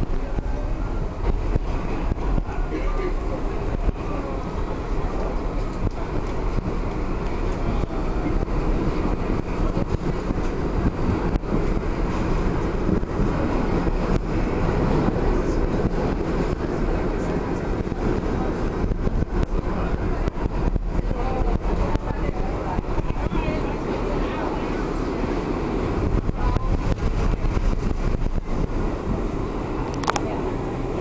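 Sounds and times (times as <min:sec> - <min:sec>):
subway wheels rumbling on rail: 0:00.0 - 0:31.0.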